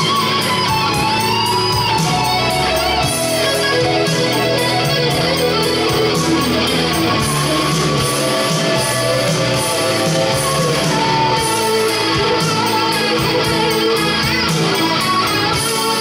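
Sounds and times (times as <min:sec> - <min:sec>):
electric guitar lead: 0:00.0 - 0:16.0
low backing music: 0:00.0 - 0:16.0.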